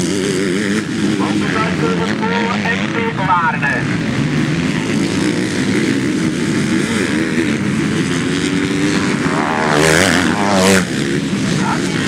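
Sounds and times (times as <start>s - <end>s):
motocross bike engines: 0.0s - 12.0s
motorbike revving past: 0.0s - 12.0s.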